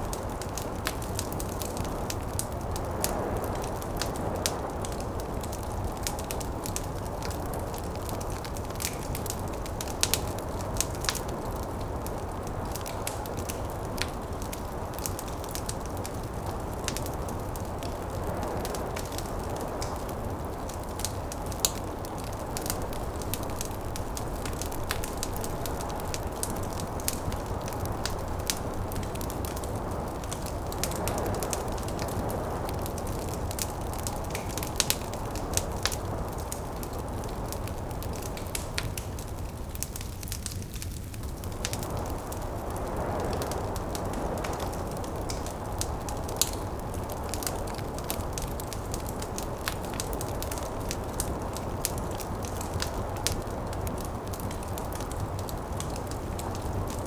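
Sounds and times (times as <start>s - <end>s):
snowstorm wind: 0.0s - 57.0s
wood fire crackling and popping: 0.0s - 57.0s.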